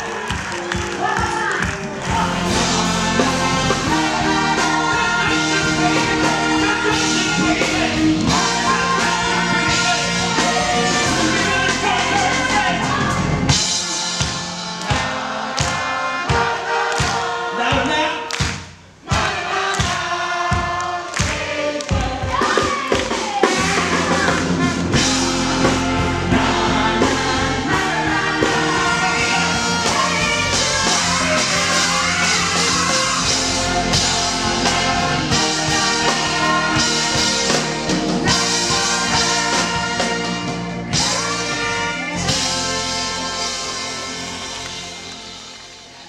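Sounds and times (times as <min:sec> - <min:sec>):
live rock band with singers: 0:00.0 - 0:46.0.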